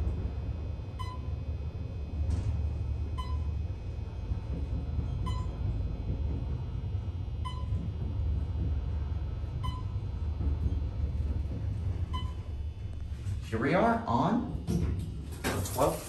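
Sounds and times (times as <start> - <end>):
elevator low rumble: 0.0 - 16.0.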